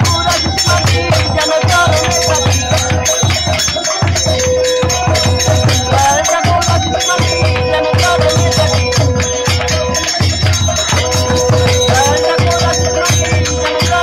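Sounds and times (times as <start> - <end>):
devotional music: 0.0 - 14.0
drum beat: 0.0 - 14.0
hand clapping: 0.0 - 14.0
long held melody notes: 0.0 - 14.0.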